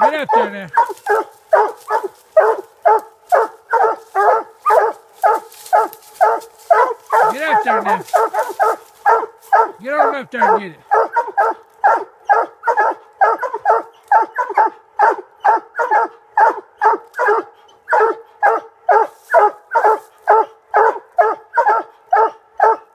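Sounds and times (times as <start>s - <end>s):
hounds barking: 0.0s - 22.9s.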